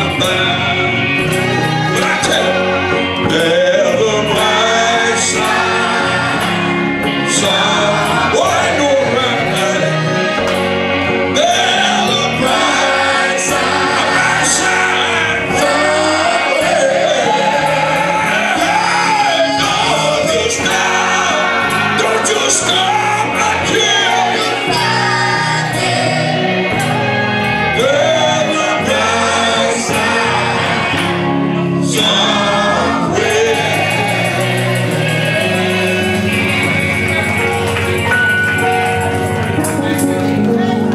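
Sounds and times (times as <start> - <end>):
electric guitar: 0.0 - 40.9
gospel choir singing: 0.0 - 40.9
live band accompaniment: 0.0 - 40.9.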